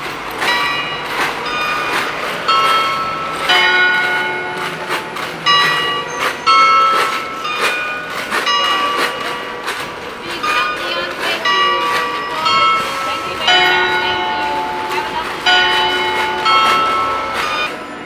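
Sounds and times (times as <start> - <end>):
bell-like ringing tones: 0.0 - 18.0
street noise: 0.0 - 18.0.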